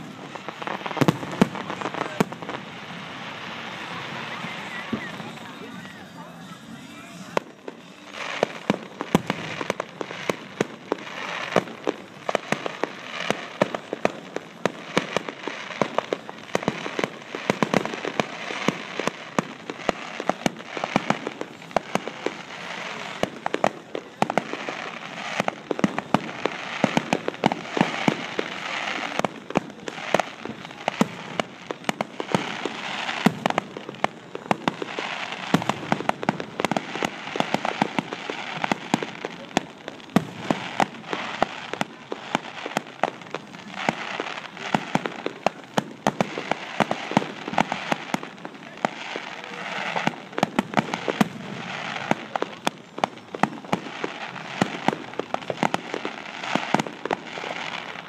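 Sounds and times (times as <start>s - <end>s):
fireworks bangs: 0.0s - 58.0s
fireworks crackling and popping: 0.0s - 58.0s.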